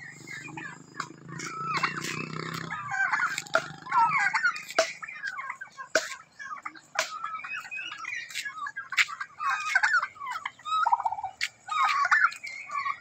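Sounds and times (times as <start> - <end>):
turkeys gobbling: 0.0 - 13.0.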